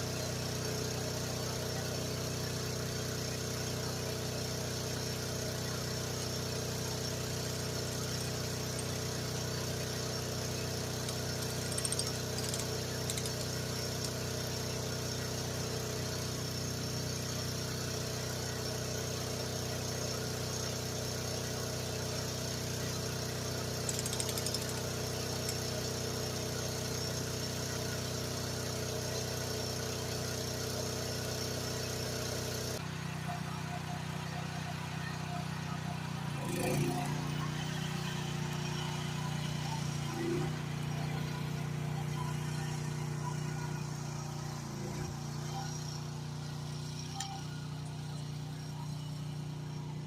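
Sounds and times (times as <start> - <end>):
mini excavator engine running: 0.0 - 50.0.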